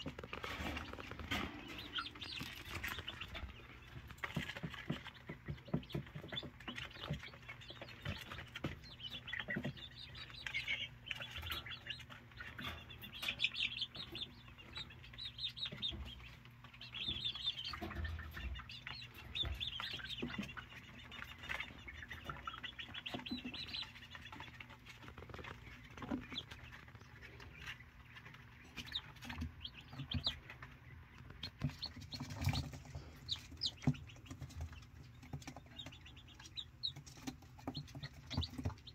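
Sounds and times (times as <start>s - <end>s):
young quail peeping: 0.0s - 38.9s.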